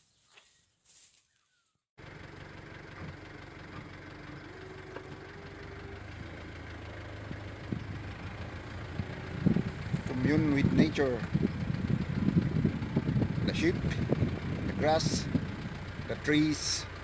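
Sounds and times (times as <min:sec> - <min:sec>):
vehicle engine running: 0:02.0 - 0:17.0.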